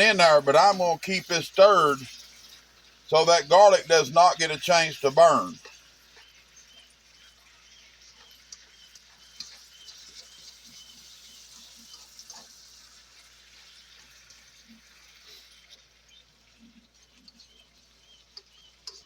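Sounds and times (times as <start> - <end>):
vegetables sizzling in a pan: 1.8 - 3.8, 5.2 - 19.0.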